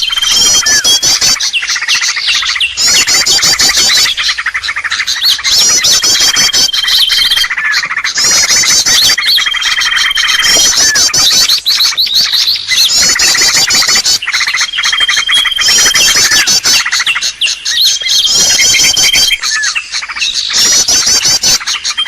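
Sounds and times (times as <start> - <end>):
bird chattering trills: 0.0 - 22.0
thin steady bird whistle: 0.0 - 22.0.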